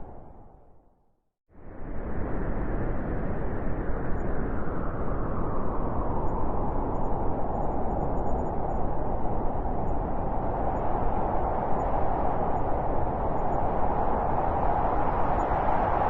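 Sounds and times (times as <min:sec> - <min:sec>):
strong wind through forest: 0:01.5 - 0:16.0.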